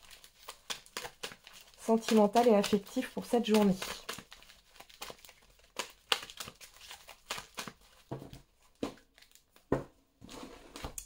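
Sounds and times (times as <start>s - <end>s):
cards being shuffled: 0.0s - 9.7s.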